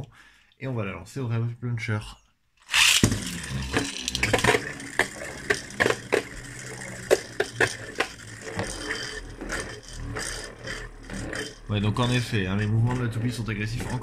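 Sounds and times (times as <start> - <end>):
spinning top whirling: 2.6 - 14.0.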